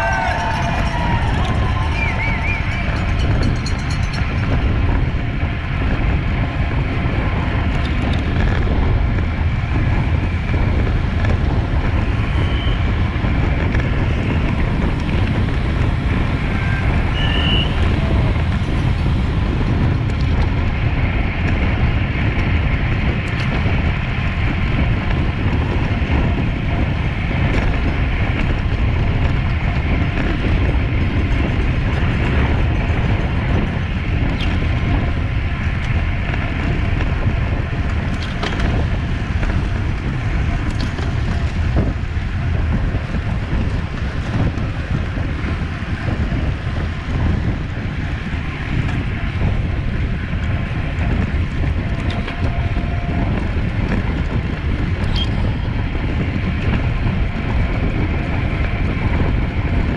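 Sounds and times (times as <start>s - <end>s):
bicycle road rumble: 0.0s - 59.9s
wind noise over microphone: 0.0s - 59.9s.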